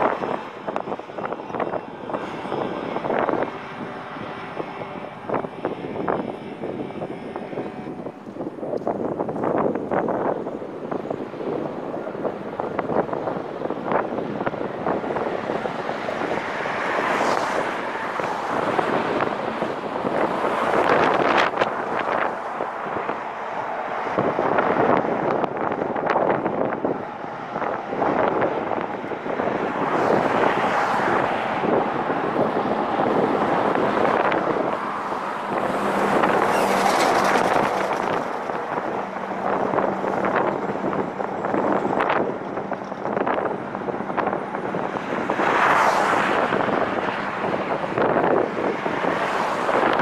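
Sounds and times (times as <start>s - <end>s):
road and traffic noise: 0.0s - 50.0s
wind rushing over microphone: 0.0s - 50.0s.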